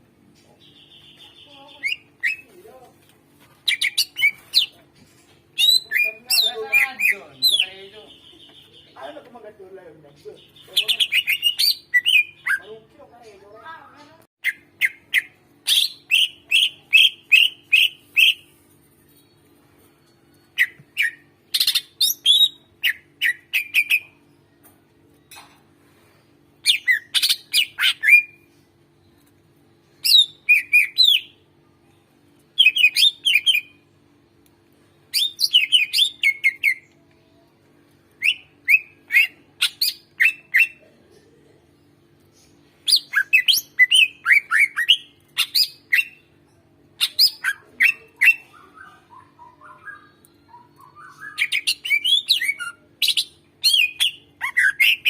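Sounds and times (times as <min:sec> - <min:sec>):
faint low hum: 0:00.0 - 0:55.0
bird chirping song: 0:00.3 - 0:02.6, 0:03.6 - 0:09.3, 0:10.0 - 0:13.3, 0:14.4 - 0:37.4, 0:38.1 - 0:55.0.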